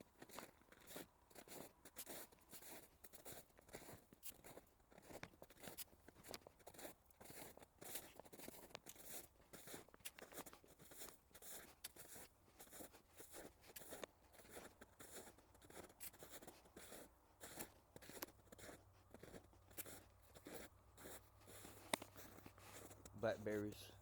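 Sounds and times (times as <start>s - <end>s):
footsteps crunching on forest floor: 0.2s - 24.0s.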